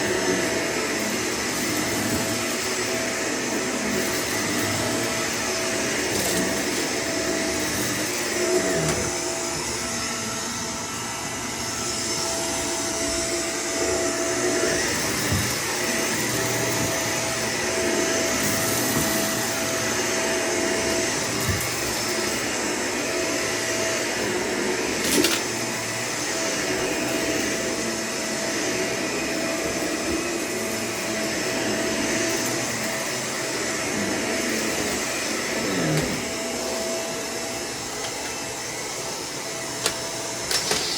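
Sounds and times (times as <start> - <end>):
vacuum cleaner whining: 0.0 - 40.9.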